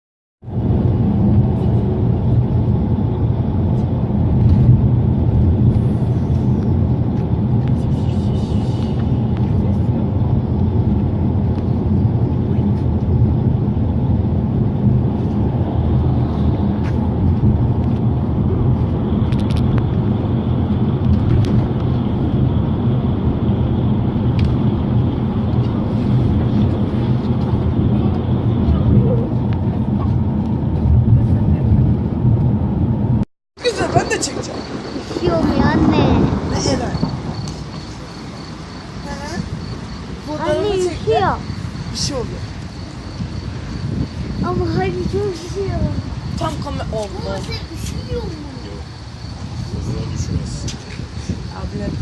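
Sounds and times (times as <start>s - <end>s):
vehicle engine and road noise: 0.4s - 52.0s.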